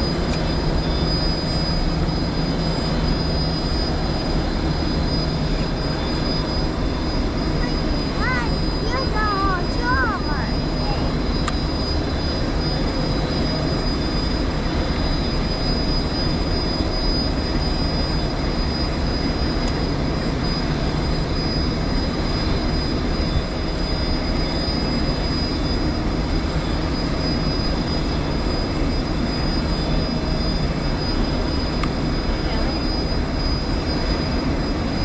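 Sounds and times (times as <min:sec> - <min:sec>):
outboard engine droning: 0:00.0 - 0:35.0
rush of wind and water: 0:00.0 - 0:35.0
thin high whine: 0:00.0 - 0:35.0.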